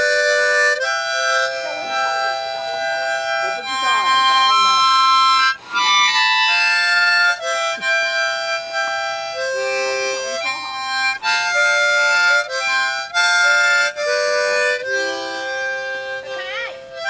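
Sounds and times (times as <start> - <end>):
harmonica playing slow chords: 0.0 - 17.0.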